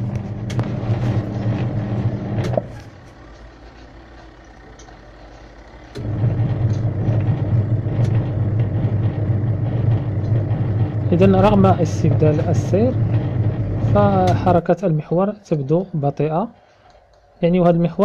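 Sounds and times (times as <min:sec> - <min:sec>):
washing machine motor humming: 0:00.0 - 0:18.0.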